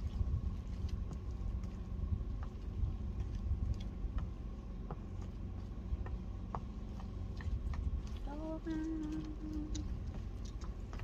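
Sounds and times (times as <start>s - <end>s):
faint high hum: 0.0s - 11.0s
wind buffeting microphone: 0.0s - 11.0s.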